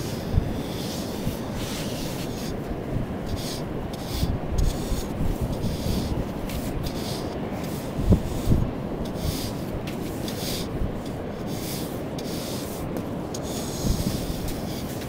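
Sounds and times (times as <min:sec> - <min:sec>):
stick scraping wet sand: 0:00.0 - 0:15.0.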